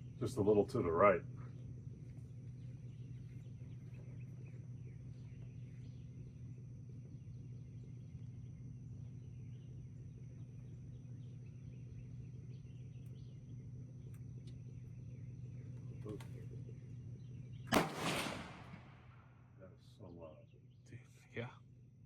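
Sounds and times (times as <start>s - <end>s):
faint bird chirps: 0.0s - 17.7s, 18.7s - 21.8s
steady low hum: 0.0s - 22.0s.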